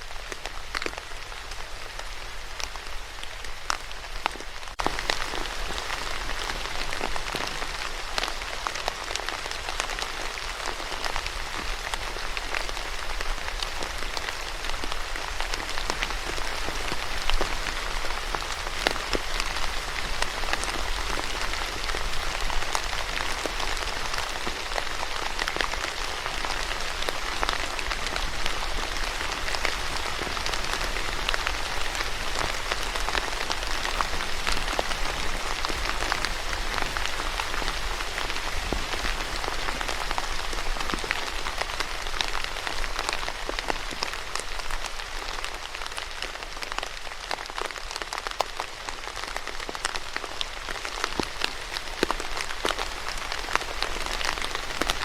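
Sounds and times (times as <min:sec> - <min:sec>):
rain hissing: 0:00.0 - 0:55.0
raindrops ticking: 0:00.2 - 0:55.0.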